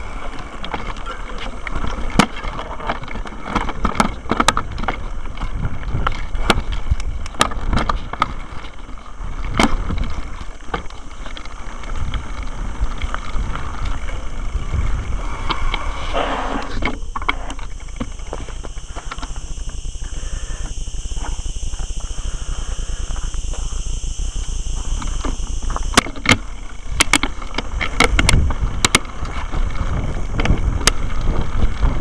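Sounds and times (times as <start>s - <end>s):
bike clicks and rattles: 0.0s - 32.0s
rumble of wind and tyres: 0.0s - 32.0s.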